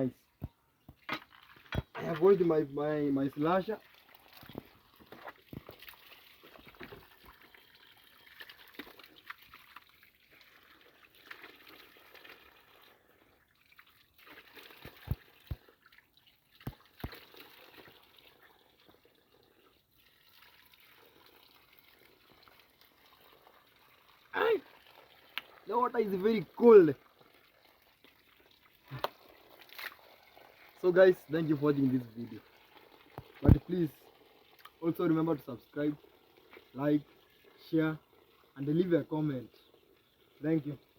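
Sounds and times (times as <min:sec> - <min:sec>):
stream trickling and splashing: 0:00.0 - 0:40.9.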